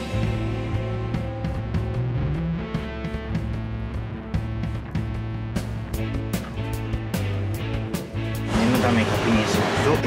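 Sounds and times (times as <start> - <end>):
bass line: 0.0 - 10.0
guitar: 0.0 - 10.0.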